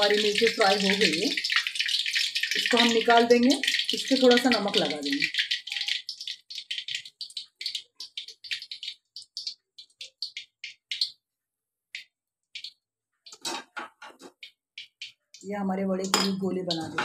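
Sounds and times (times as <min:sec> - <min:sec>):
hot oil crackling and popping: 0:00.0 - 0:17.0.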